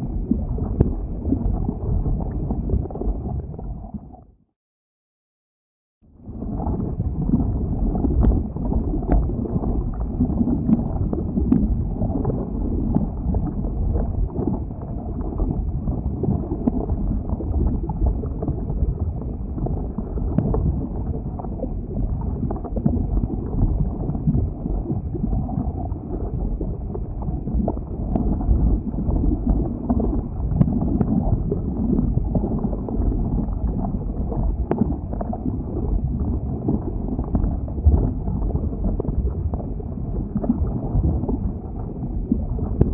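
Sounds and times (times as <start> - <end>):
lava flow rumbling and crackling: 0.0 - 4.3, 6.1 - 42.9.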